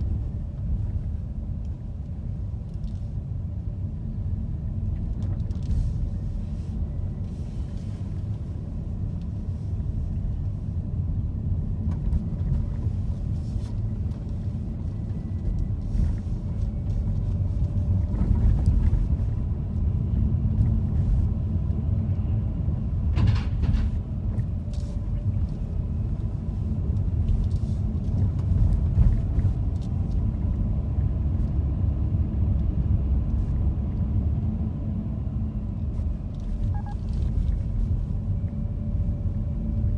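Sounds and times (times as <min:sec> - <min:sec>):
car interior rumble: 0:00.0 - 0:39.9.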